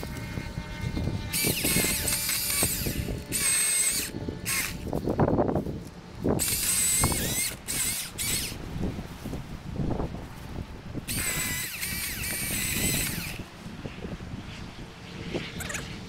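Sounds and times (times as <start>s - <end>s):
chainsaw electric whine: 0.0s - 9.6s, 10.3s - 13.7s.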